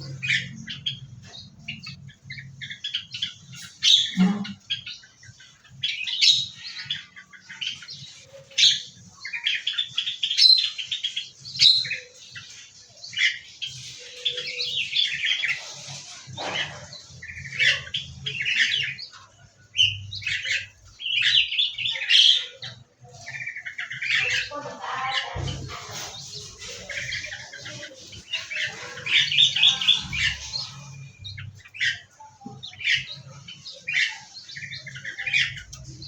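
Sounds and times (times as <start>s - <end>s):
small birds chirping and trilling: 0.0s - 36.0s.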